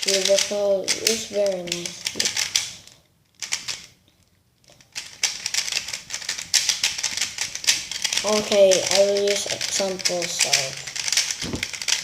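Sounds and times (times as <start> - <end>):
plastic puzzle cube clicking: 0.1 - 3.9, 4.7 - 12.0.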